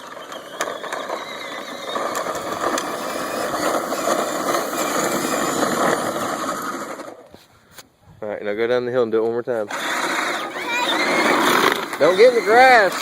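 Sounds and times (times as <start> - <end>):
toy electric motors whirring: 0.0 - 7.2, 9.7 - 13.0.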